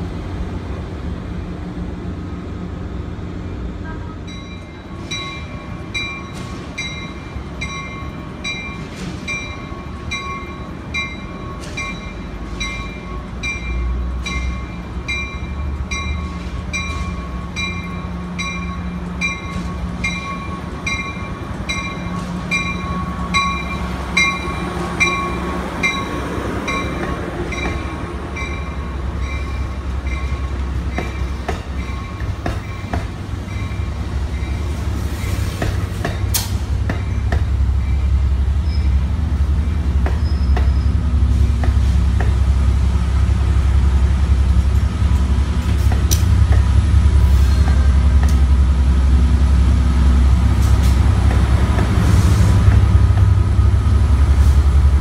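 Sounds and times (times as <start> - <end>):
train rumbling: 0.0 - 55.0
train wheel clicks: 4.3 - 48.7, 50.2 - 53.6.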